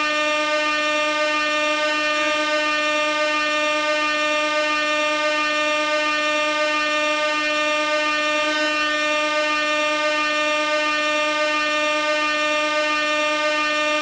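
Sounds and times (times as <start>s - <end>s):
air horn continuous note: 0.0s - 14.0s.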